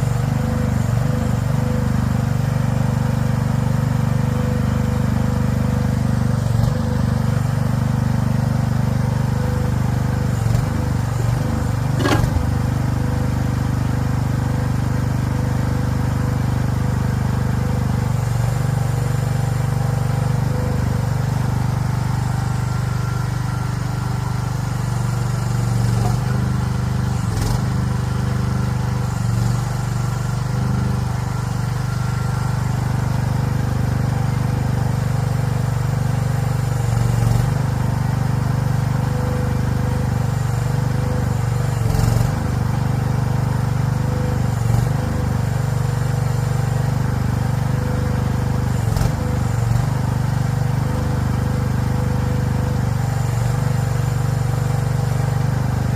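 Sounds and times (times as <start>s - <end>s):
excavator engine running: 0.0s - 55.9s.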